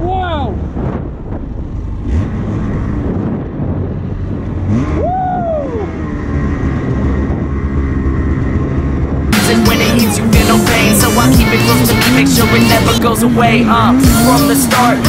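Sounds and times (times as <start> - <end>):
snowmobile engine revving: 1.6 - 15.0.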